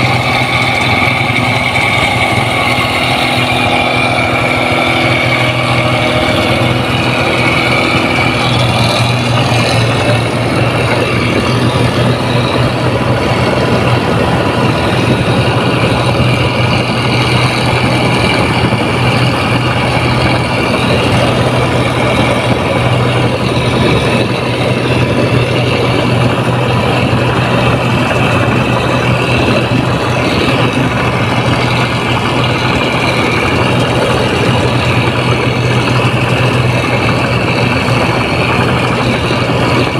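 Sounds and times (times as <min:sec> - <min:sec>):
diesel engine droning with whine: 0:00.0 - 0:39.9.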